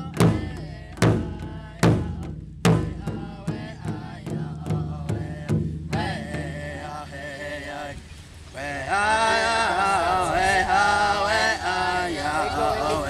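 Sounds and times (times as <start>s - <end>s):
singers chanting: 0.0s - 13.0s.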